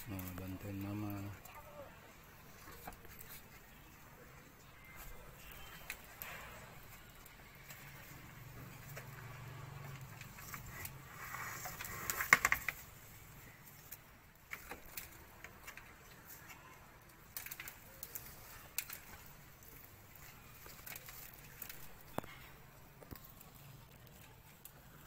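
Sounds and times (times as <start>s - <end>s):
hands rustling leaves and soil: 0.0s - 25.0s.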